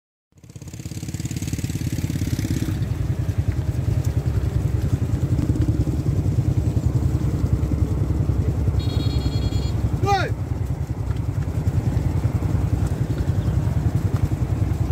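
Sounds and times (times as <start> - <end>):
small motorbike engine idling: 0.4 - 14.9.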